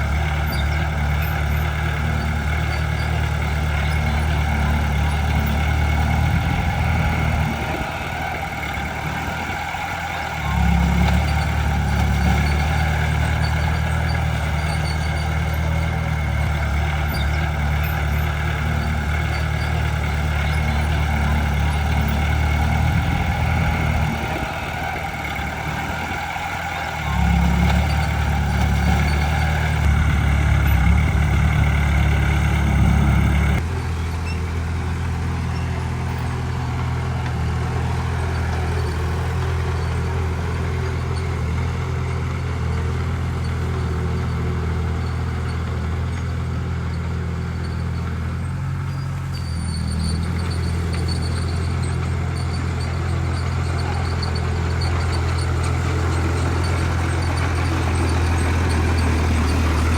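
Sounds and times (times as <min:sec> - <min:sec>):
heavy diesel engine working: 0:00.0 - 0:59.9.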